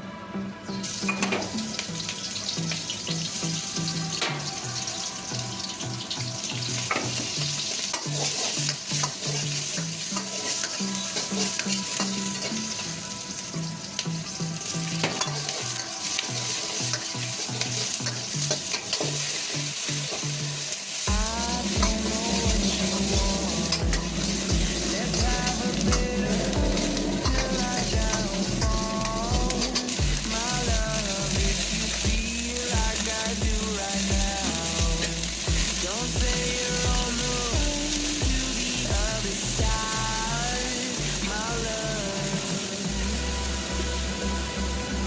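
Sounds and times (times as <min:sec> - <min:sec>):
food sizzling in oil: 0:00.8 - 0:45.0.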